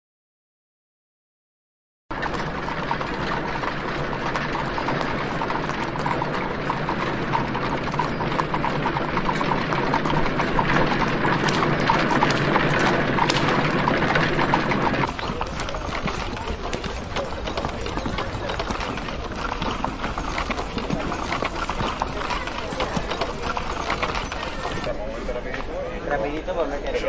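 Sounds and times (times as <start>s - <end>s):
horse hooves clip-clopping: 2.1s - 27.0s
street ambience: 2.1s - 27.0s.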